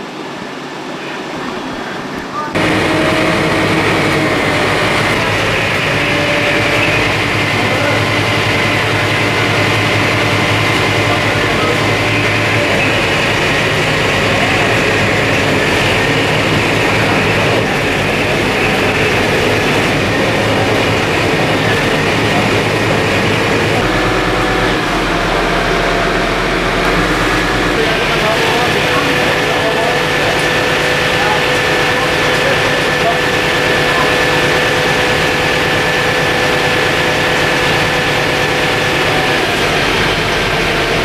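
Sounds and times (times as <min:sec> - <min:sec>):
fire truck engine drone: 0:00.0 - 0:41.0.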